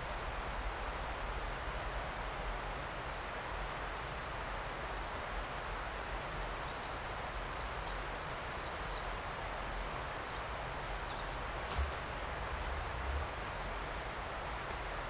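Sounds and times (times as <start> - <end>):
forest ambience hiss: 0.0 - 15.0.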